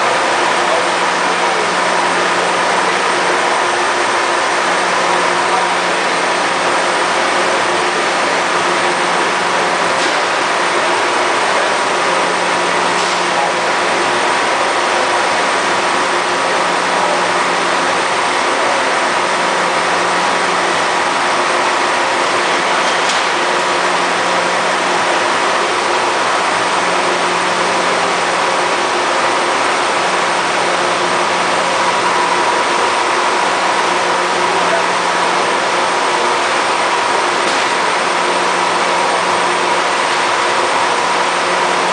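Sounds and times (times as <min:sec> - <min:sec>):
machine hum and whine: 0:00.0 - 0:41.9.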